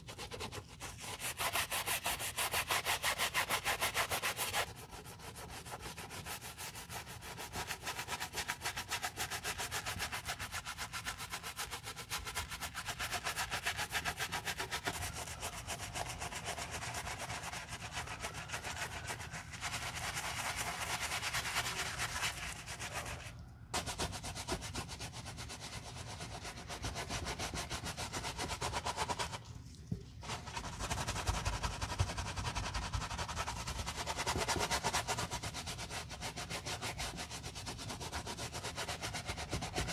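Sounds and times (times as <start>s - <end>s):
brush scrubbing a sneaker: 0.0s - 39.9s.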